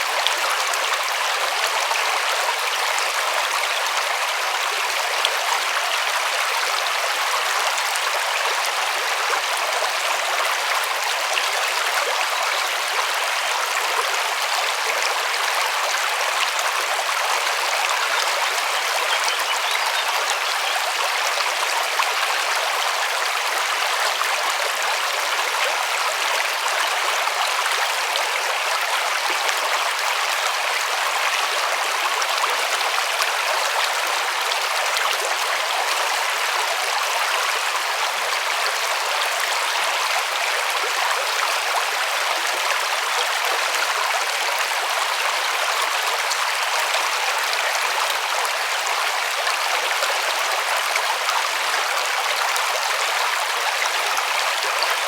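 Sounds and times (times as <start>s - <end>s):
river water over rocks: 0.0s - 55.0s.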